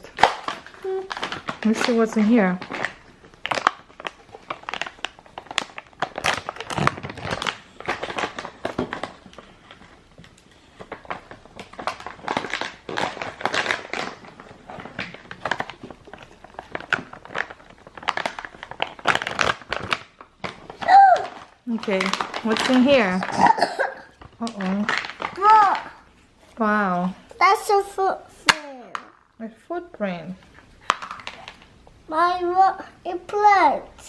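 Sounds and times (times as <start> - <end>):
plastic bag crinkling and tearing: 0.0 - 26.8, 30.6 - 31.8.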